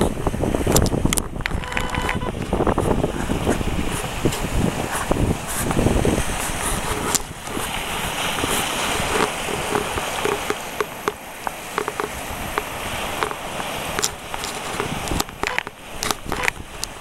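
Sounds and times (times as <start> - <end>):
water splashing on rocky shore: 0.0 - 17.0.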